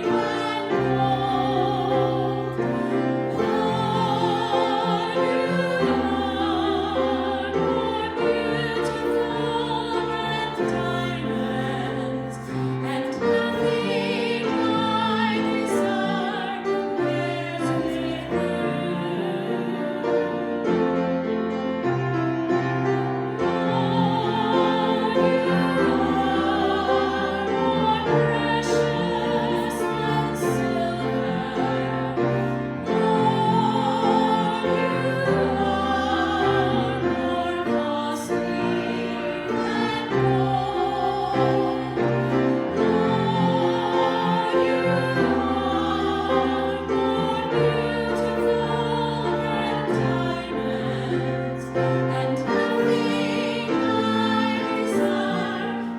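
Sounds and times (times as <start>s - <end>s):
hymn sung with vibrato: 0.0s - 20.4s, 22.9s - 55.9s.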